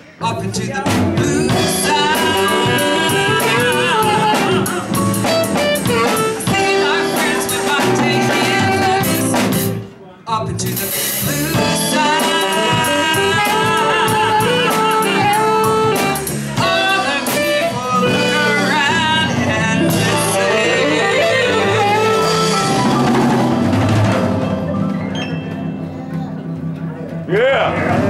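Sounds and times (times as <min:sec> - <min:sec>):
blues band playing: 0:00.0 - 0:28.0.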